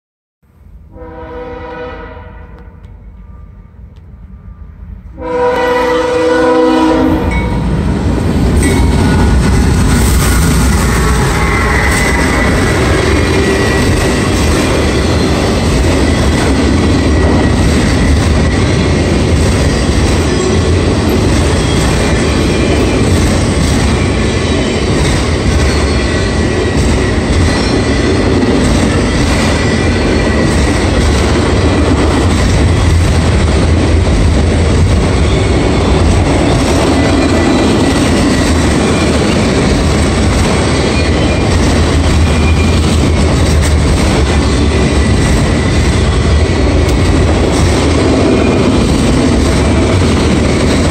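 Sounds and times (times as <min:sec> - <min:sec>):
steel wheels rumbling on rails: 0:02.8 - 0:50.9.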